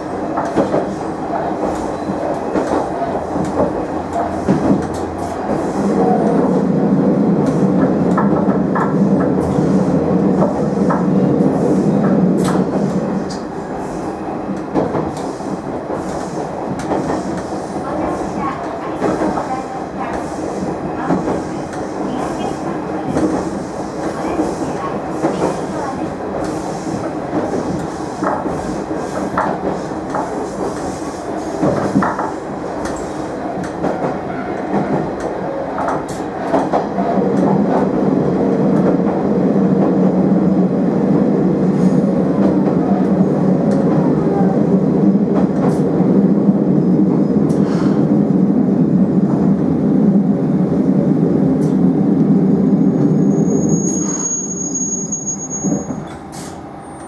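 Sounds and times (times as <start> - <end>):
railcar running hum: 0.0 - 57.0.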